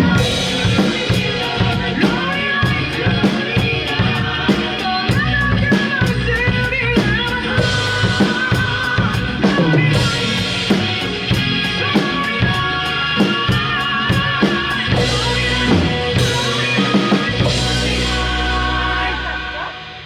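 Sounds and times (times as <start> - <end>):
drum kit playing: 0.0 - 20.0
recorded song with vocals: 0.0 - 20.0.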